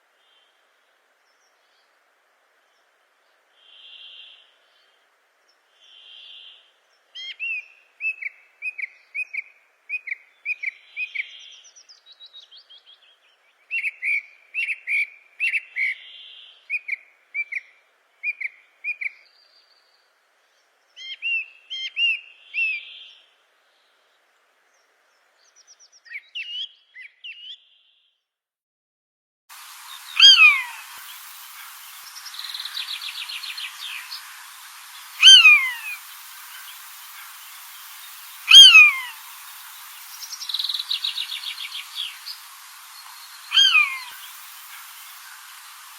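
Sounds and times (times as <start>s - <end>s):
songbirds chirping: 0.0s - 28.3s, 29.6s - 45.9s.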